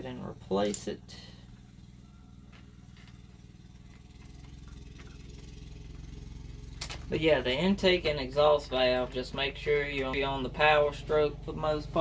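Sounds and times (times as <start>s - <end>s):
go-kart engine running: 1.4s - 12.0s.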